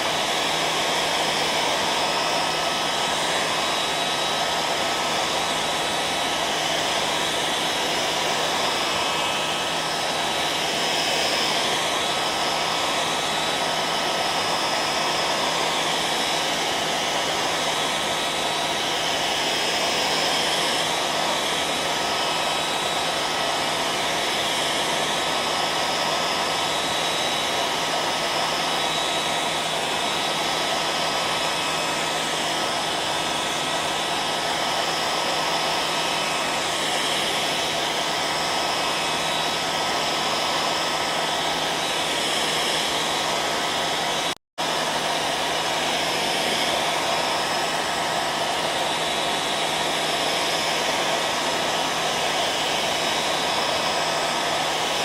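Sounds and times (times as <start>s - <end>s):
hair dryer blowing with whine: 0.0s - 55.0s.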